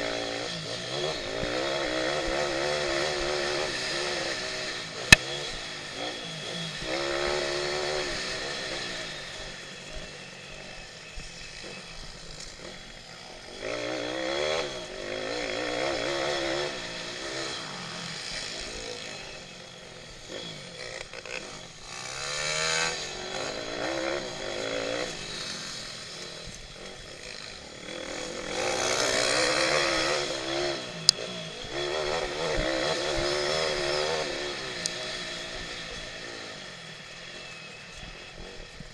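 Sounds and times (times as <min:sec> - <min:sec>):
pitbike engines revving: 0:00.0 - 0:38.9.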